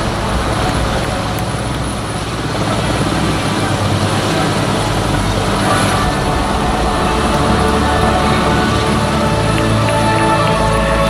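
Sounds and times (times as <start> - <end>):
helicopter engine and rotor hum: 0.0 - 11.0.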